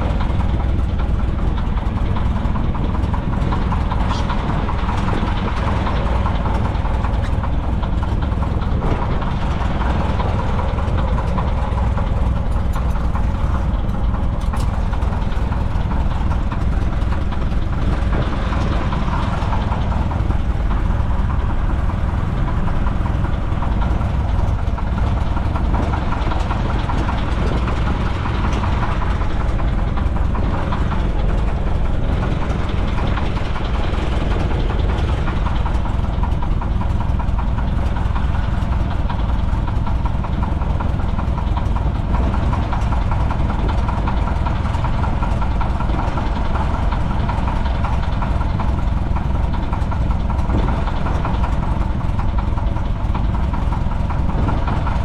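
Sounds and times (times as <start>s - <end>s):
plane engine and propeller: 0.0s - 55.0s.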